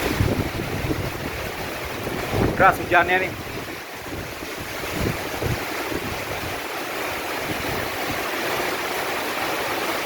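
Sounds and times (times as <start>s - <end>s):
heavy rain hissing: 0.0s - 10.0s
wind buffeting microphone: 0.0s - 10.0s.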